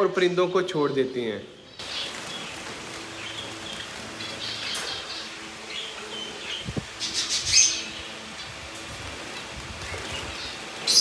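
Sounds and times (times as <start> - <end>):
birds chirping: 0.0 - 11.0
wings flapping and rustling: 1.8 - 11.0.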